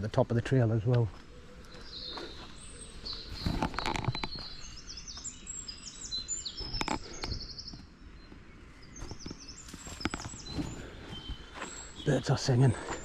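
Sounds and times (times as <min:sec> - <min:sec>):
songbirds singing trills: 0:00.0 - 0:13.0
footsteps crunching on path: 0:00.9 - 0:05.5, 0:06.4 - 0:13.0.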